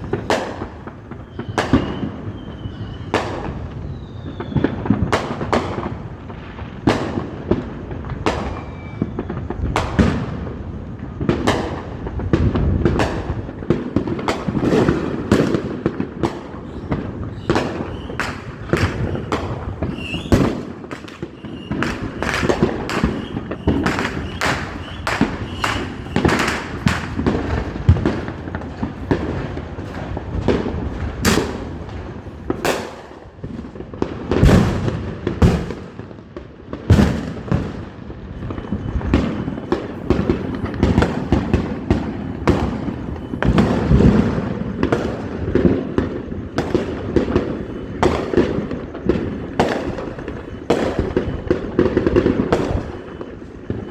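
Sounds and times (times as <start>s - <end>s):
fireworks banging: 0.0s - 53.9s.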